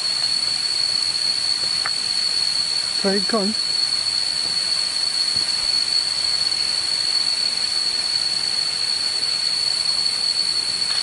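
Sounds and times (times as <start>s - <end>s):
high-pitched insect drone: 0.0s - 11.0s
running water hiss: 0.0s - 11.0s.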